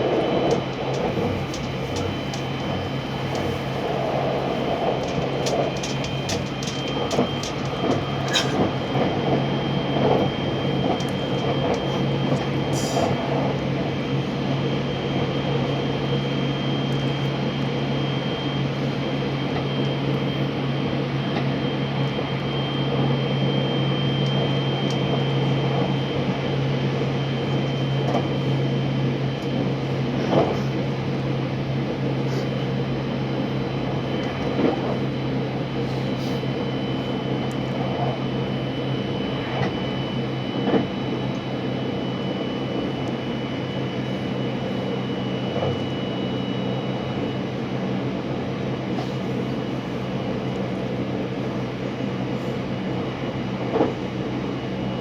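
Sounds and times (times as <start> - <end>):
train cabin hum and rushing: 0.0 - 55.0.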